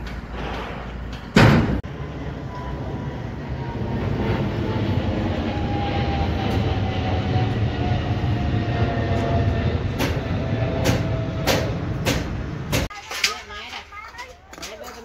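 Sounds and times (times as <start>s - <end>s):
jet airliner flying overhead: 0.3s - 12.9s.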